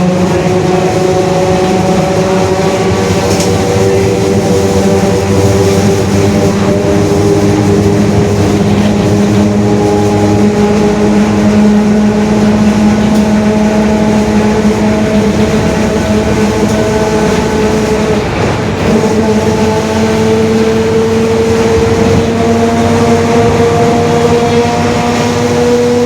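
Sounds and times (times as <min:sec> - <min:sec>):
bus diesel drivetrain running: 0:00.0 - 0:26.0.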